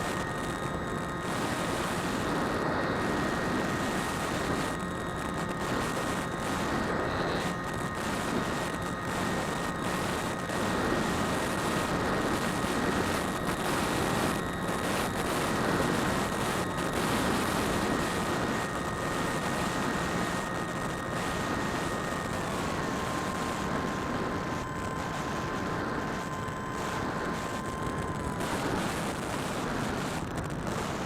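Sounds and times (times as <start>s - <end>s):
model aircraft motor whine: 0.0s - 31.0s
wind rushing over microphone: 0.0s - 31.0s.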